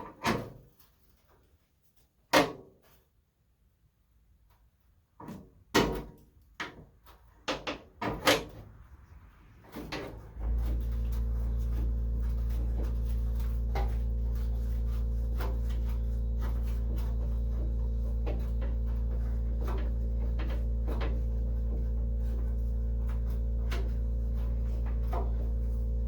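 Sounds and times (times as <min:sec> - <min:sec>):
low electrical hum: 0:00.4 - 0:26.0.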